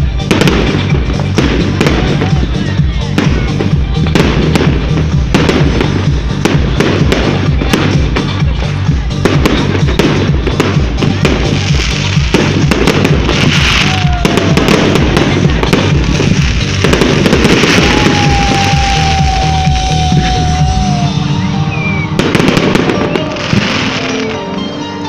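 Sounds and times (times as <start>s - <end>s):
music with low beat: 0.0s - 24.6s
fireworks crackling and popping: 0.0s - 24.7s.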